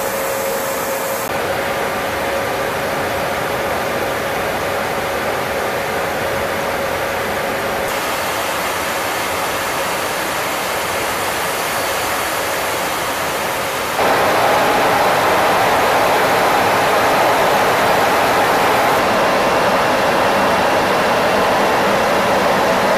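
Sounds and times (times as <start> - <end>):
aircraft cabin engine noise: 0.0 - 22.9.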